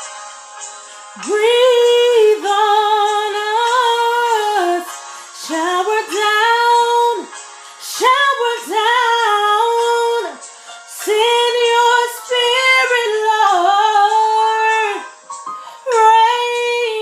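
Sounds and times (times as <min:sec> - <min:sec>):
woman singing: 0:01.2 - 0:15.1, 0:15.8 - 0:17.0.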